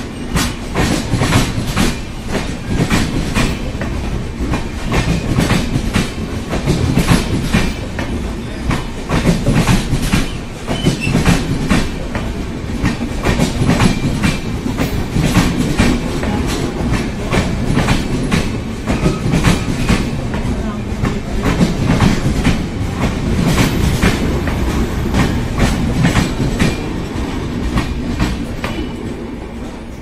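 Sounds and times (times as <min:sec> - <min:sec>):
train wheels clacking over rail joints: 0:00.0 - 0:30.0.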